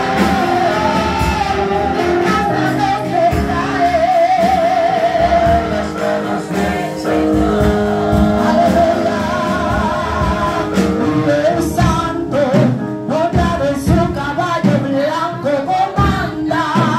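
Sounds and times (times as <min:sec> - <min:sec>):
musical accompaniment: 0:00.0 - 0:16.9
woman singing with vibrato: 0:00.0 - 0:16.9.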